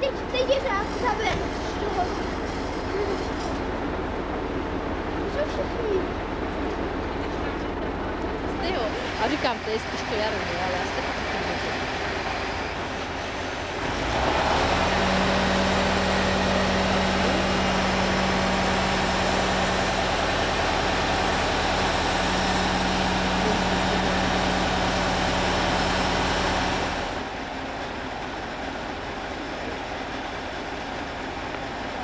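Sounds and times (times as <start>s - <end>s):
crane engine droning: 0.0s - 32.0s.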